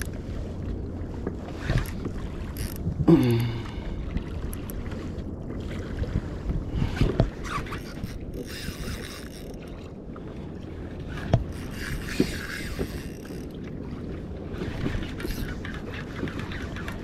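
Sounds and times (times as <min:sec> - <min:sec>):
water lapping against kayak hull: 0:00.0 - 0:17.0
wind buffeting microphone: 0:00.0 - 0:17.0.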